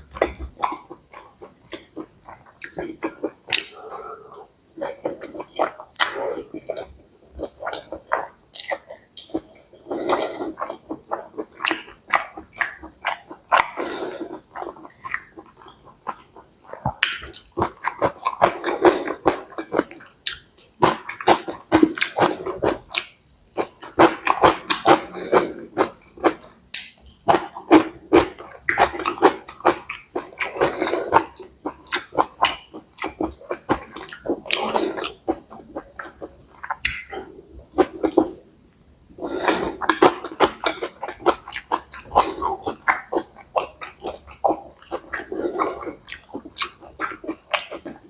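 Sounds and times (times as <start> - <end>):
close-up chewing with mouth smacks: 0.0 - 48.0.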